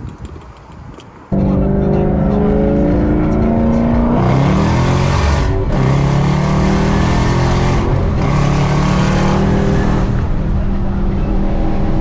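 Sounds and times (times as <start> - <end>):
car engine accelerating: 1.3 - 12.0.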